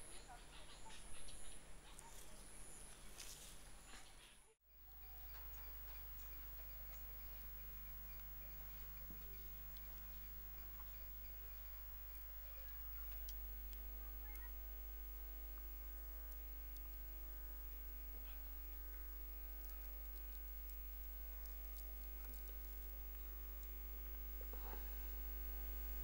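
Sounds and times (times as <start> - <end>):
electrical mains hum: 0.0 - 26.0
faint ticks: 4.9 - 26.0.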